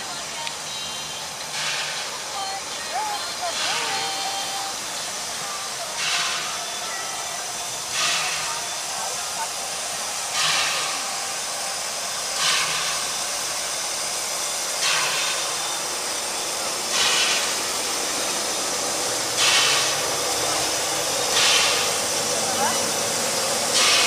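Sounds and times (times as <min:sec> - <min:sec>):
steam hissing: 0:00.0 - 0:24.0
steam locomotive chuffing: 0:00.0 - 0:24.0.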